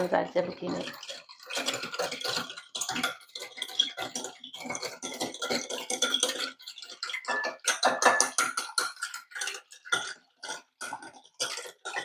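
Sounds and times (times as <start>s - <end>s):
hand whisk rattling in bowl: 0.0s - 12.0s.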